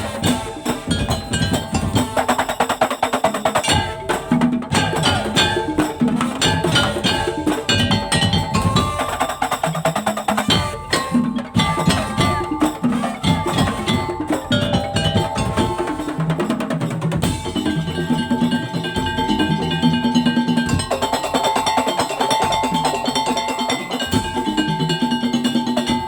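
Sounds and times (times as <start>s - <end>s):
wooden slit drums and drums: 0.0s - 26.0s.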